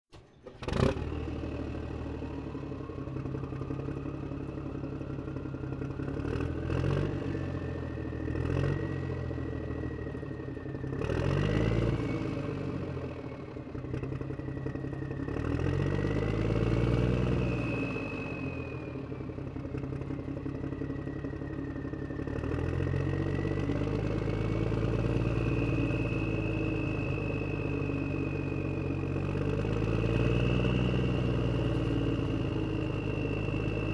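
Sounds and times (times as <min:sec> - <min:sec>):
engine revving: 0:00.2 - 0:02.4, 0:06.0 - 0:10.2, 0:10.8 - 0:13.3, 0:14.0 - 0:20.0, 0:21.1 - 0:33.9.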